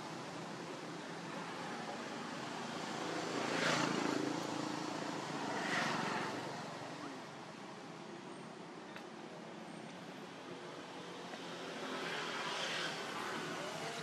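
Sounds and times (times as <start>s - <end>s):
vehicles passing: 0.0s - 14.0s.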